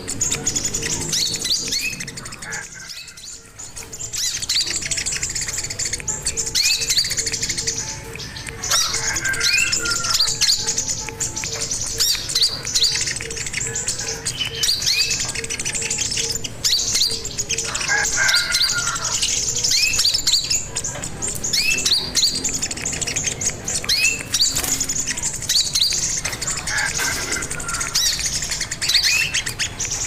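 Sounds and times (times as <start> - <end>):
bird chirping high upswept notes: 0.0 - 30.0.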